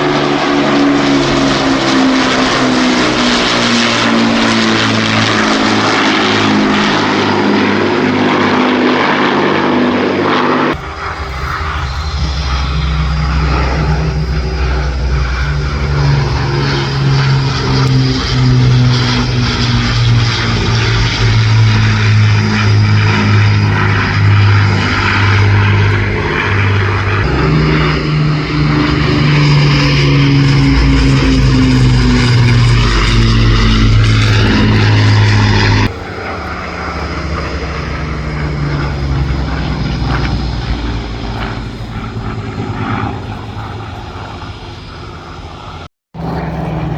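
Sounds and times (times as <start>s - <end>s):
propeller planes droning past: 0.0s - 46.9s.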